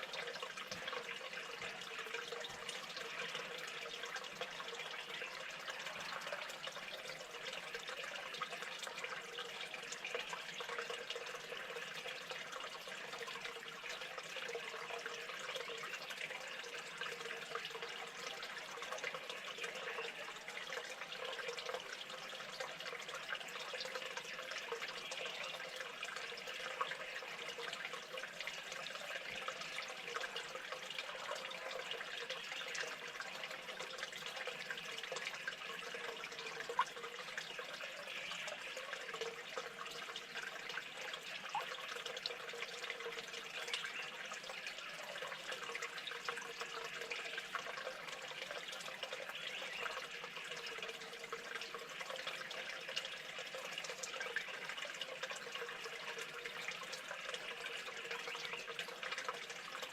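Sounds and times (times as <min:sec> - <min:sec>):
running water: 0:00.0 - 0:59.9
water drips: 0:00.0 - 0:59.9.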